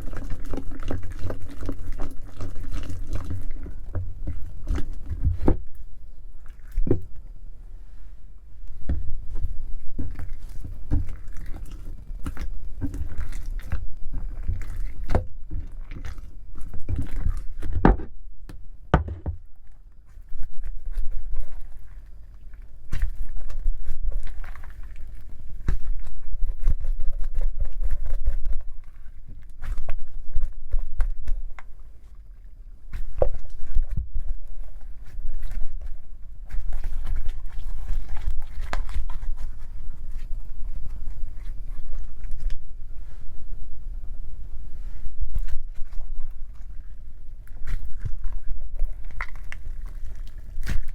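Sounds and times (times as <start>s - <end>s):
slime squishing by hand: 0.0s - 50.9s.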